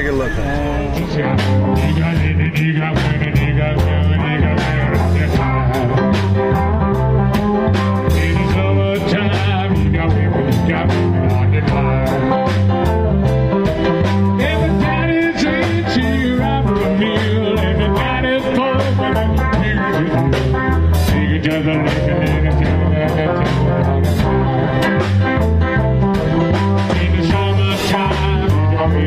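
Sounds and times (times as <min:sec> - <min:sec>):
rock-blues band music: 0:00.0 - 0:29.0.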